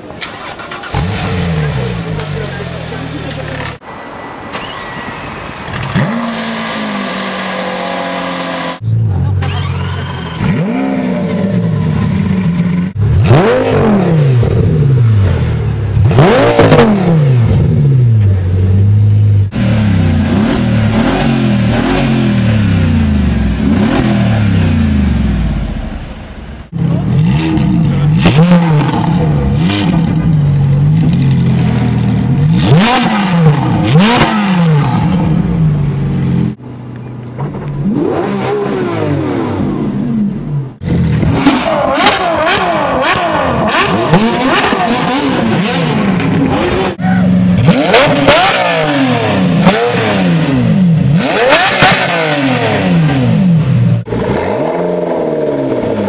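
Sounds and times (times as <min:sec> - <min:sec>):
car engines revving hard: 0:00.0 - 0:03.8, 0:05.7 - 0:36.7, 0:37.5 - 0:56.0.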